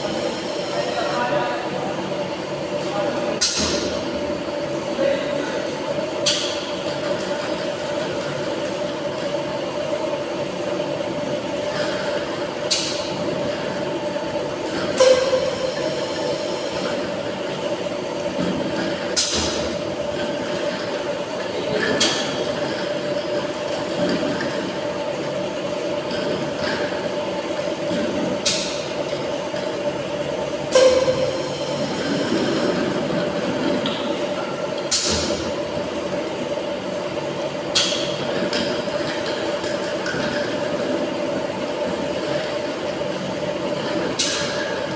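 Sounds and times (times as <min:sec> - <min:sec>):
machine mechanical hum: 0:00.0 - 0:44.9.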